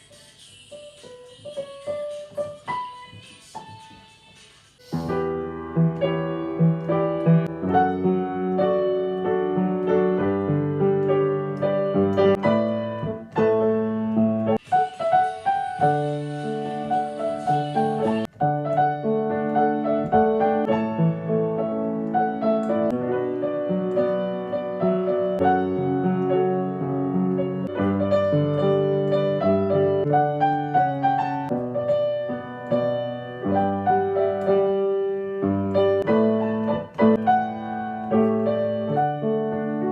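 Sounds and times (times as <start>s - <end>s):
piano playing pop melody: 0.7s - 4.1s, 4.8s - 39.9s.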